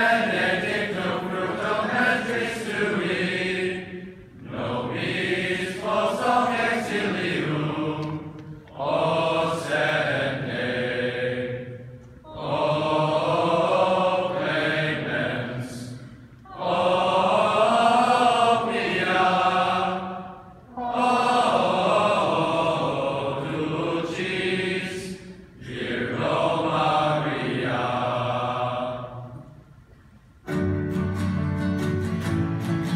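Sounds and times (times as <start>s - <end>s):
male chorus singing in unison: 0.0s - 29.6s.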